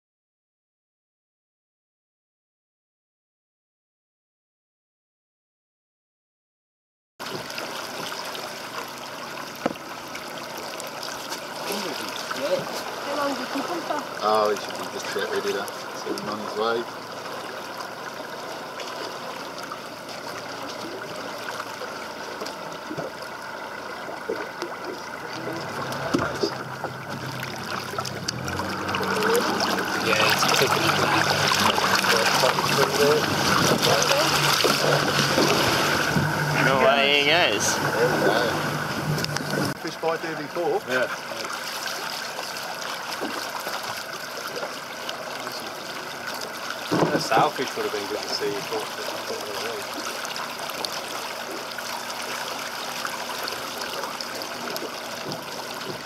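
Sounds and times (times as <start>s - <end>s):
water splashing against boat: 7.2s - 56.0s.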